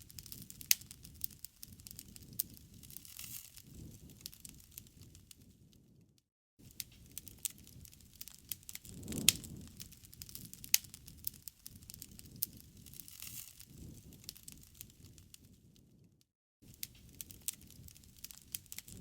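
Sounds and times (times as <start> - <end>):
wood fire crackling and popping: 0.0 - 5.8, 6.7 - 15.9, 16.7 - 19.0
low rumble of flames: 0.0 - 6.0, 6.7 - 16.1, 16.8 - 19.0.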